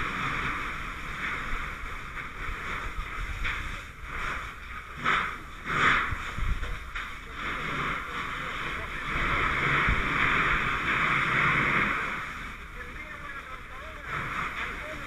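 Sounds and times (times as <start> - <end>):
water hissing from fire hose: 0.0 - 15.0.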